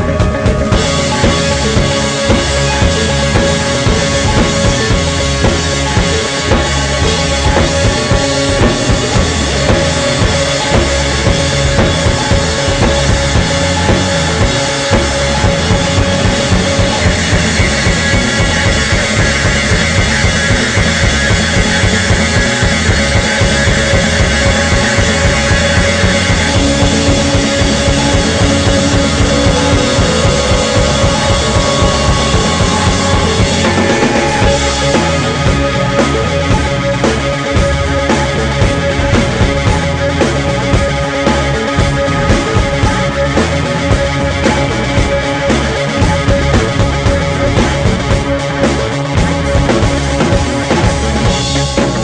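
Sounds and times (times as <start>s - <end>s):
bass drum: 0.0s - 52.0s
drum kit beat: 0.0s - 52.0s
electronic rock music: 0.0s - 52.0s
sustained synth tones: 0.0s - 52.0s.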